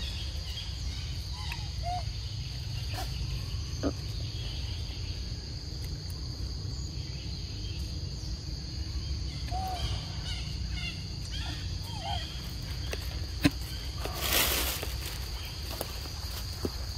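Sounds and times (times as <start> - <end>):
high drone of insects: 0.0 - 16.9.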